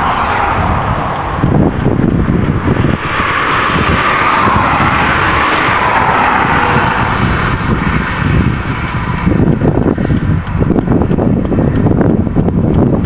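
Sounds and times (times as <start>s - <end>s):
car tyre hiss passing: 0.0s - 10.6s
wind buffeting microphone: 0.0s - 13.0s.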